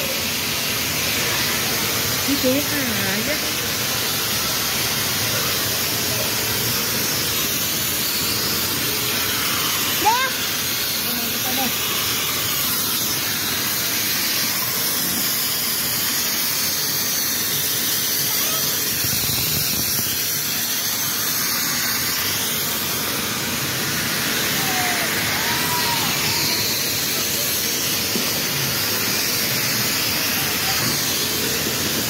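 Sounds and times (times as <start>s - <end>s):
air blowers hissing: 0.0s - 32.0s.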